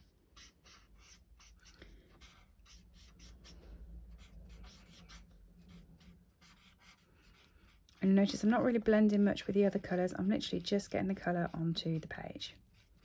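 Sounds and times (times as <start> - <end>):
marker scratching on card: 0.0 - 13.0.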